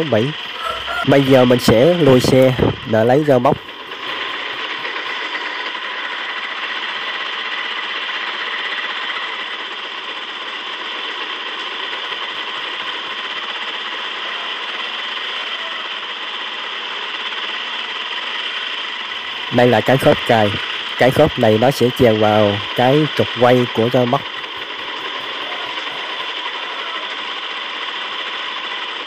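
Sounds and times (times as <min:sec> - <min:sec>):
small electric gear motor running: 0:00.0 - 0:29.0.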